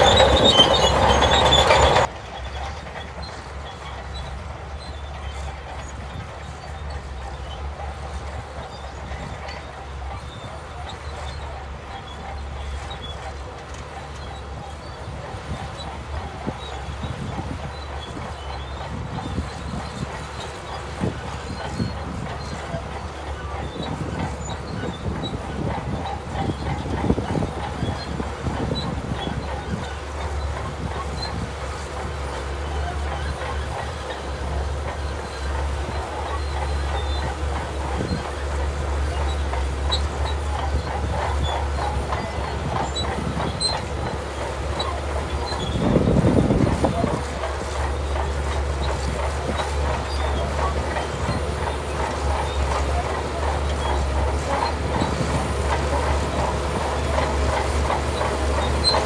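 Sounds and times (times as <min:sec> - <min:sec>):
bulldozer engine rumble: 0:00.0 - 0:59.0
steel tracks rattling: 0:00.0 - 0:59.0.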